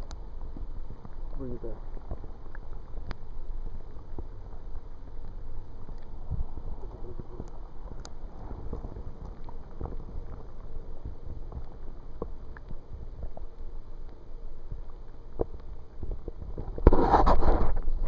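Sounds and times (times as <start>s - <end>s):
faint clicks and knocks: 0.0s - 18.0s
muffled underwater stream rumble: 0.0s - 18.0s.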